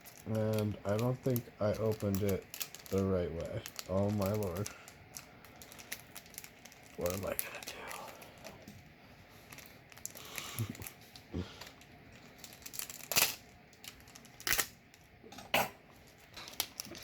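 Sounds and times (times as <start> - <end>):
sharp crackles: 0.0 - 8.5, 9.4 - 15.0
foil wrapper crinkling: 0.0 - 15.2, 15.9 - 17.0.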